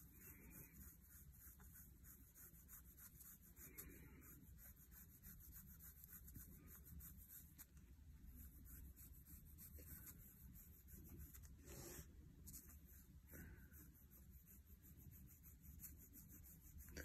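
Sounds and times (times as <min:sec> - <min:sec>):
paintbrush rubbing over paper: 0:00.0 - 0:17.0.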